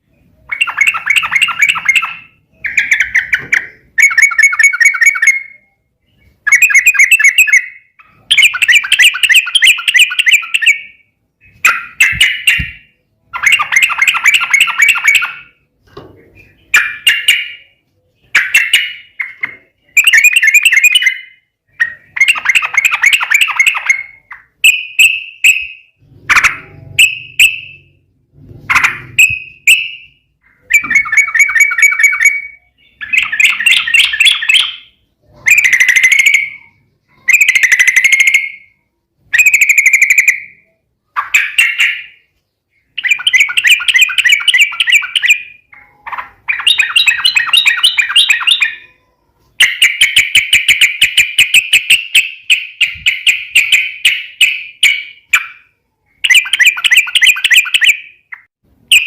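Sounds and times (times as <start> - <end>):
bulbul chattering song: 0.0 - 59.0.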